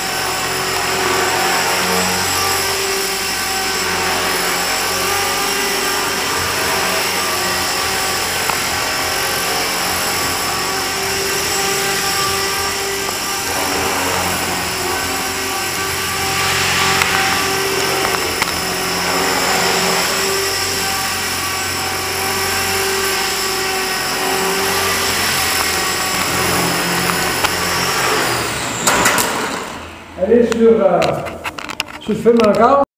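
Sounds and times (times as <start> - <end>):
rc helicopter whine and buzz: 0.0 - 30.2, 31.0 - 32.8.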